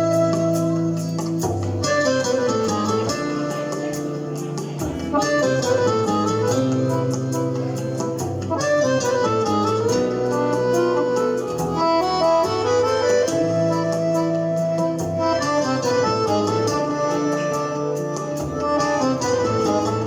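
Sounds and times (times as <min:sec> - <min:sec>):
accordion melody: 0:00.0 - 0:20.0
bass line: 0:00.0 - 0:20.0
percussion beat: 0:00.0 - 0:20.0.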